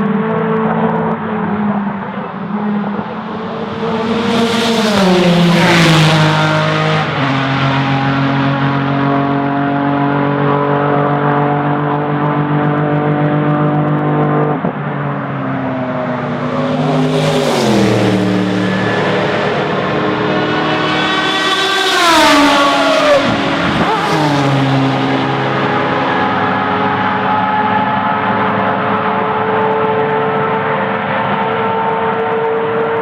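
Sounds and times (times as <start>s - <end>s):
racing car engine passing: 0.7s - 32.8s.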